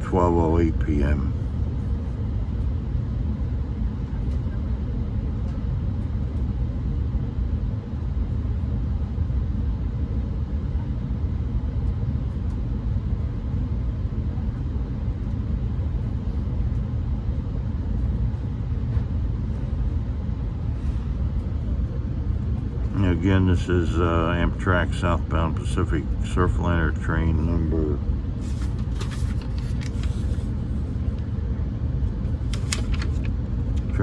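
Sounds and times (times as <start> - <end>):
low rumble inside train car: 0.0 - 34.0.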